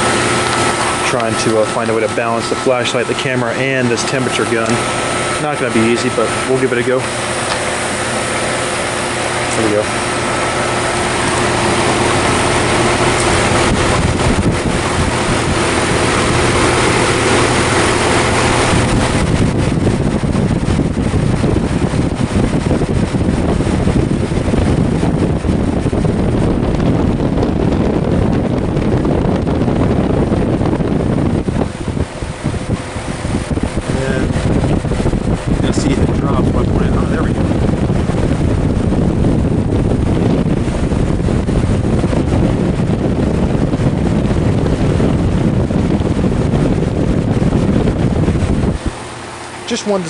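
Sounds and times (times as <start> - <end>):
heat pump fan and compressor: 0.0 - 50.0
wind buffeting on microphone: 0.0 - 50.0.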